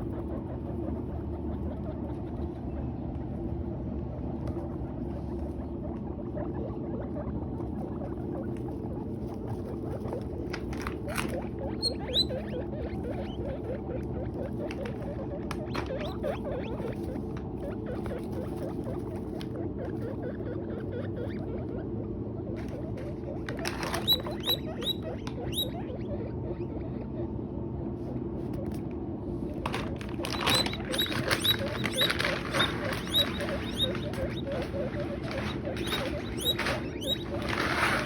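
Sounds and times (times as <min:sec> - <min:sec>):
guinea pig squeaks: 0:00.0 - 0:38.0
guinea pigs chewing hay: 0:00.0 - 0:38.0
steady low hum: 0:00.0 - 0:38.0.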